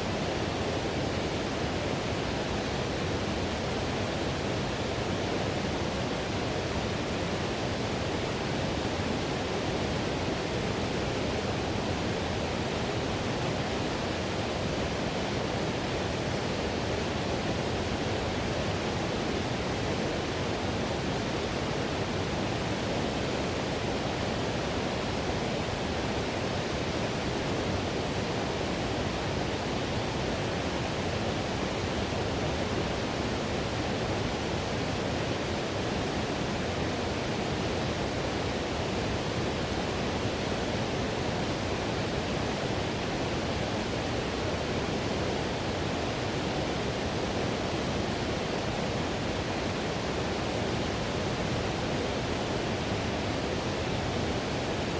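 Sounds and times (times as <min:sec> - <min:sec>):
river rushing over rapids: 0:00.0 - 0:54.9.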